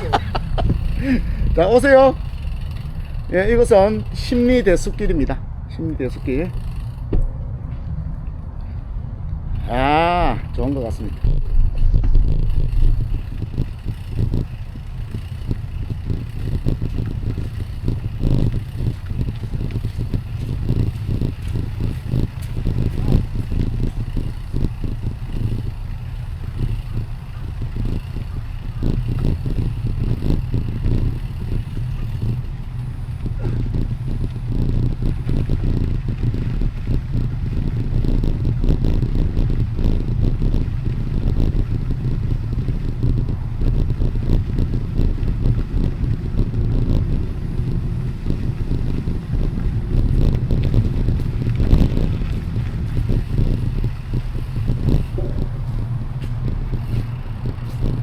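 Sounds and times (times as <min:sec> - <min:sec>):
tyre rolling noise: 0:00.0 - 0:05.4, 0:09.5 - 0:58.0
wind buffeting microphone: 0:00.0 - 0:58.0.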